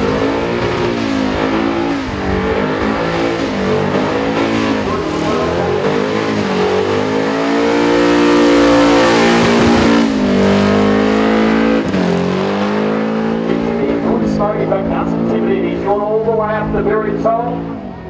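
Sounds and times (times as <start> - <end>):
engine revving at high revs: 0.0 - 17.8.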